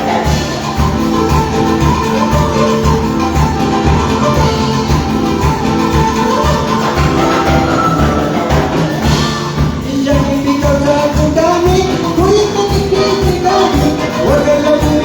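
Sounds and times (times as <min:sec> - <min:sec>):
band playing upbeat latin music: 0:00.0 - 0:15.0.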